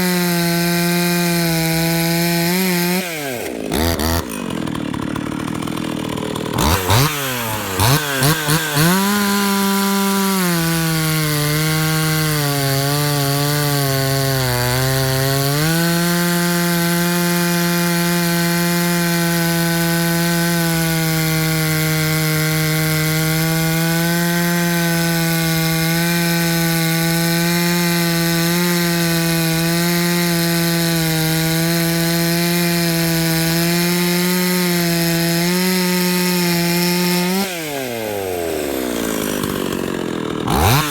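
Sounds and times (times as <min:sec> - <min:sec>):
chainsaw engine revving and idling: 0:00.0 - 0:40.9.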